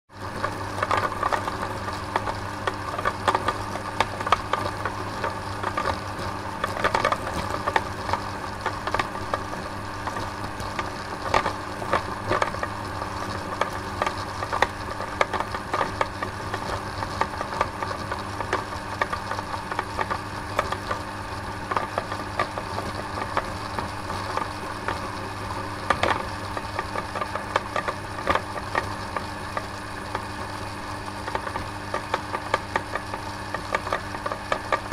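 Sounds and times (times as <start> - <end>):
electric machine humming: 0.1 - 34.9.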